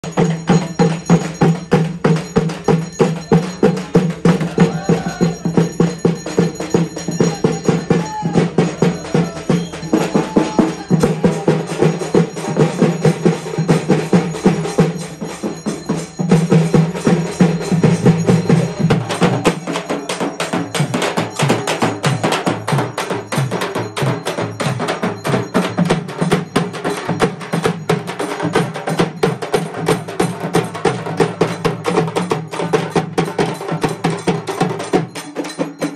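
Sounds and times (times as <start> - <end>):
frame drums beaten fast: 0.0 - 35.9.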